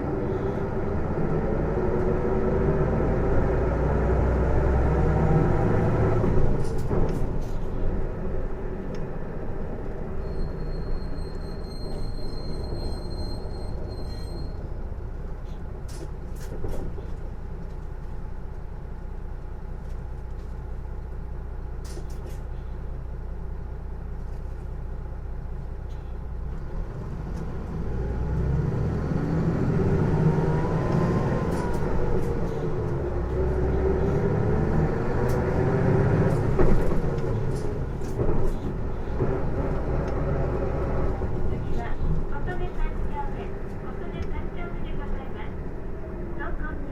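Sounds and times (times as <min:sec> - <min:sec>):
bus drivetrain whine: 0:00.0 - 0:46.9
bus idling: 0:00.0 - 0:46.9.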